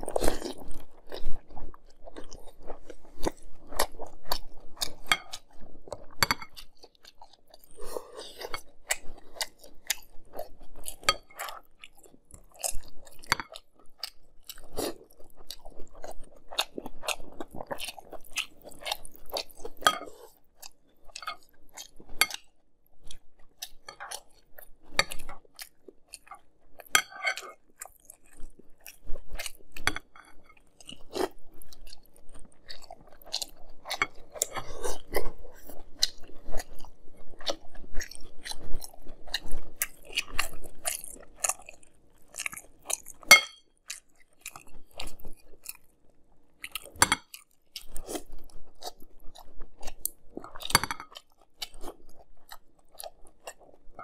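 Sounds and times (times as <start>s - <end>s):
person chewing crunchy cereal: 0.0s - 54.0s.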